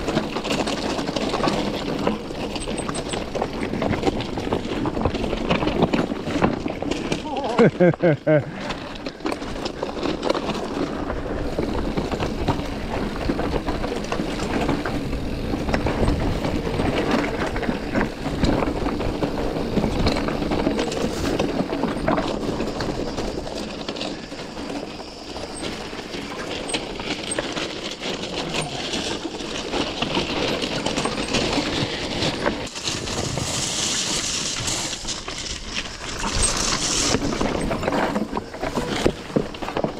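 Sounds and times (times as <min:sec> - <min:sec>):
tyres clattering over stones: 0:00.0 - 0:15.2, 0:16.1 - 0:39.9
bike rattling: 0:00.0 - 0:39.9.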